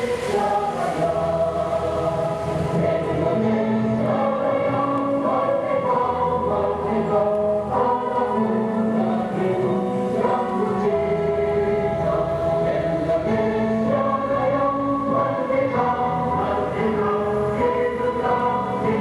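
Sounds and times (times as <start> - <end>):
choir singing slow song: 0.0 - 19.0.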